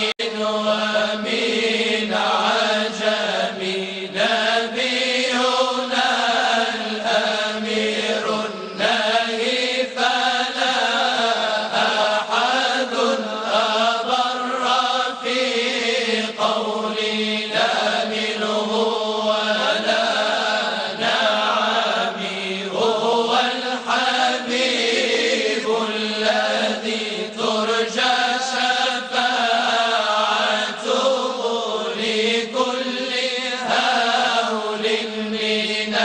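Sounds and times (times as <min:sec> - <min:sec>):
devotional chanting: 0:00.0 - 0:36.0.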